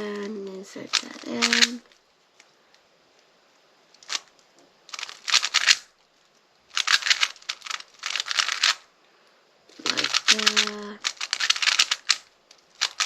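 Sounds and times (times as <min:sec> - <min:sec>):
puzzle cube clicking turns: 0:00.1 - 0:02.5, 0:03.9 - 0:08.9, 0:09.7 - 0:13.0.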